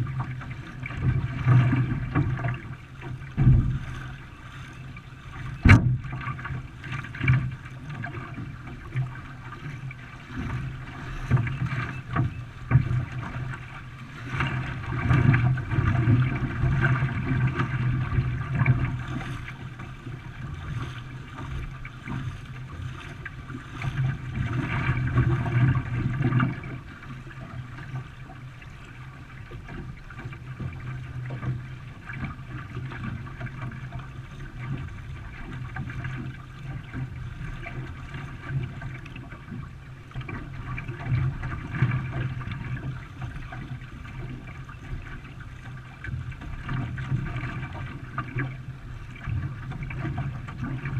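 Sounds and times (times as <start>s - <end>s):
paddle splashing water: 0.0s - 50.9s.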